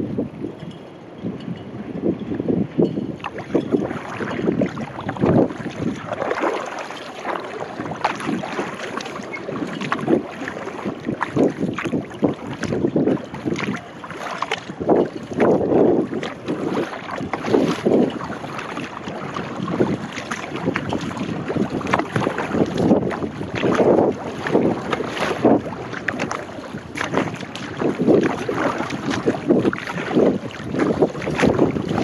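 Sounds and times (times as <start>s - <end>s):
water lapping at hull: 0.0s - 32.0s
wind buffeting microphone: 0.0s - 32.0s
paddle strokes splashing: 3.2s - 32.0s.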